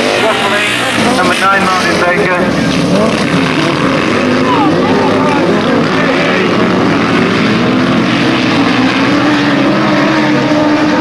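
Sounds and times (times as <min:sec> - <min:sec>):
racing sidecar engines revving: 0:00.0 - 0:11.0.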